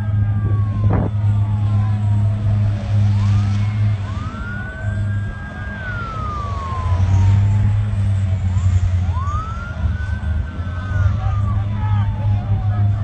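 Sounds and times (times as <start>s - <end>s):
emergency siren wailing: 0.0s - 13.0s
steady low rumble: 0.0s - 13.0s.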